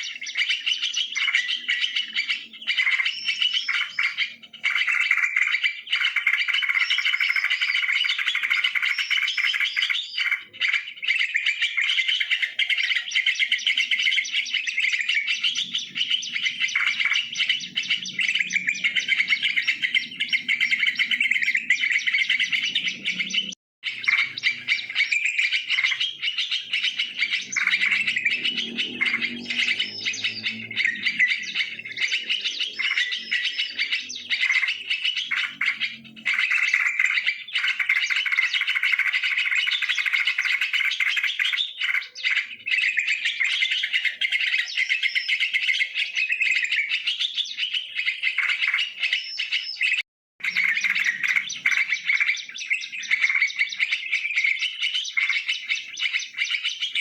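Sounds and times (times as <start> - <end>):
birds chattering: 0.0 - 57.0.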